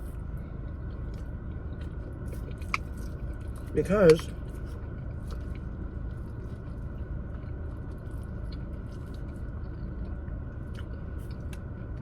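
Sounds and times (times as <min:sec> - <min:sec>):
person chewing food: 0:00.0 - 0:12.0
steady low rumble: 0:00.0 - 0:12.0.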